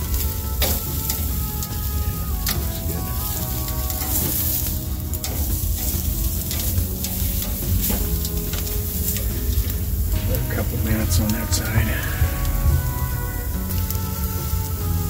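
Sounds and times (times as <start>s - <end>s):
background music: 0.0s - 15.0s
sharp crackles and clicks: 0.0s - 15.0s
steaks sizzling on a grill: 0.0s - 15.0s.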